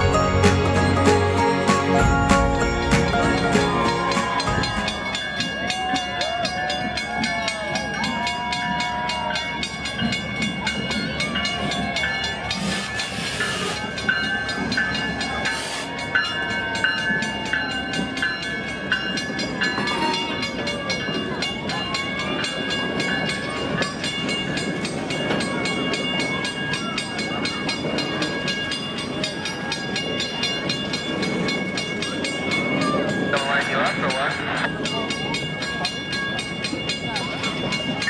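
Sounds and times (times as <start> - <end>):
crossing signal bell ringing: 0.0 - 38.0
train cars clacking and rumbling: 0.0 - 38.0.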